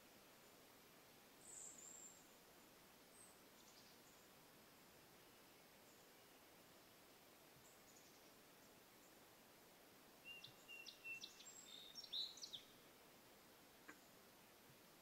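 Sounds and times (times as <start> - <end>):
faint outdoor hiss: 0.0 - 15.0
songbird singing: 0.0 - 15.0.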